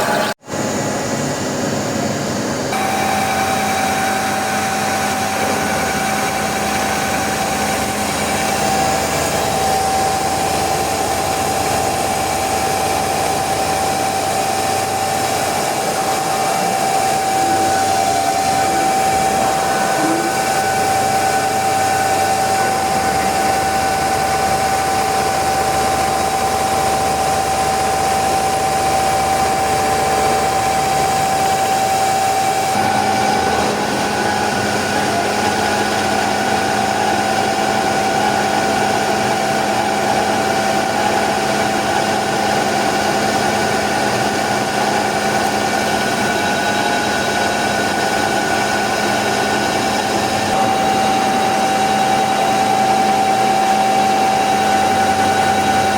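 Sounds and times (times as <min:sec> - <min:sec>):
milling machine spindle whine: 0:00.0 - 0:55.9.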